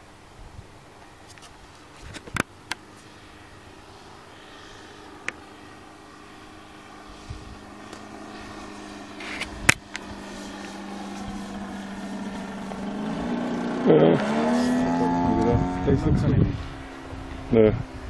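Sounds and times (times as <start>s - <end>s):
propeller engine hum: 0.0s - 18.0s.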